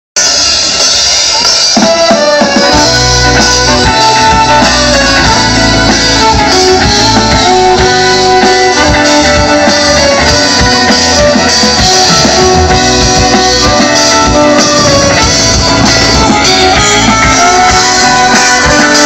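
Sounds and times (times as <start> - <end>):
drums and bass beat: 0.2 - 19.0
folk-rock band playing: 0.2 - 19.0.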